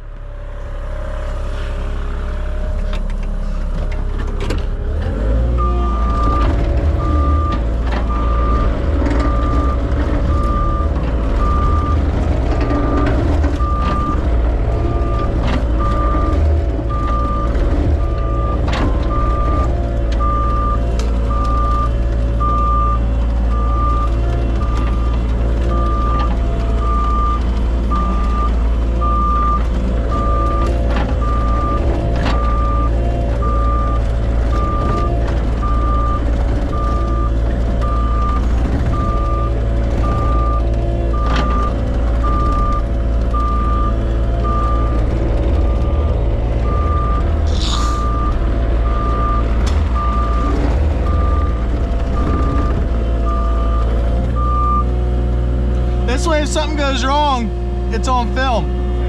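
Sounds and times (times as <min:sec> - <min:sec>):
truck engine running: 0:00.0 - 0:59.0
reversing alarm beeping: 0:05.4 - 0:54.9.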